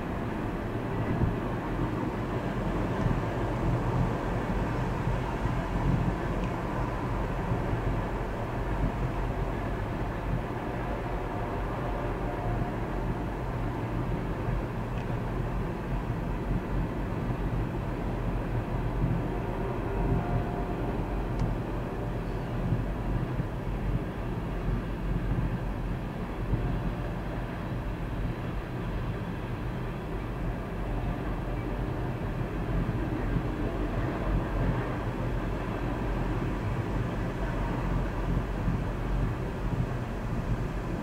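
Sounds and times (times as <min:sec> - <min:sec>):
freight train wheels rumbling: 0:00.0 - 0:41.0.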